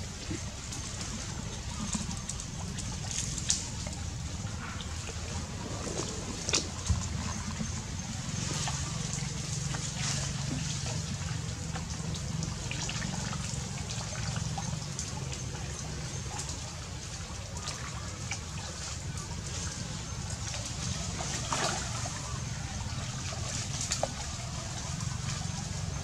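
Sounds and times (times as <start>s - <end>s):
monkey swimming splashes: 0.0s - 26.0s
river water trickling and splashing: 0.0s - 26.0s
steady low hum: 0.0s - 26.0s.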